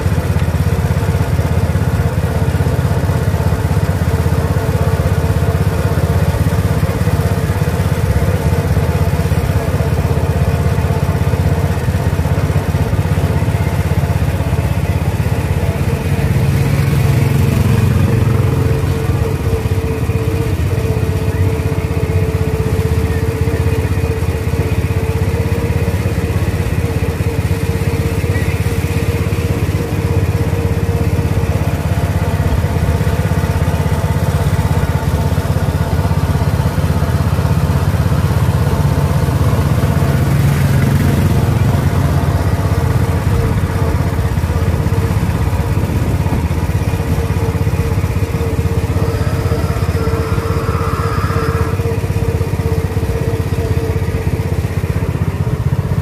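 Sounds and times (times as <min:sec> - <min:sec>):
small engine running at low speed: 0:00.0 - 0:56.0.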